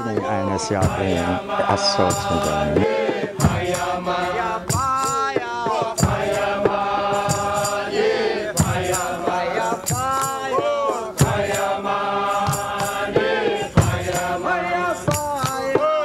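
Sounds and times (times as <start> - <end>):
group of voices chanting: 0.0 - 16.0
drum strokes: 0.8 - 15.8.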